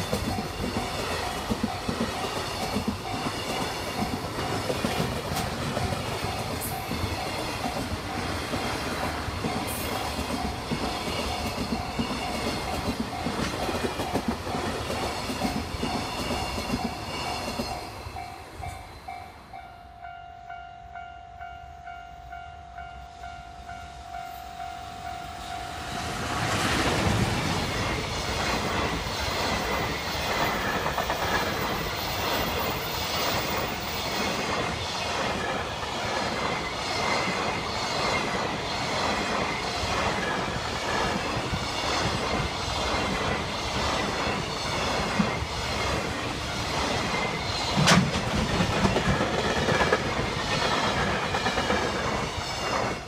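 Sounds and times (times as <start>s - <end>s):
clickety-clack over rail joints: 0.0s - 17.9s, 26.3s - 53.0s
train wheels rumbling: 0.0s - 20.2s, 22.3s - 53.0s.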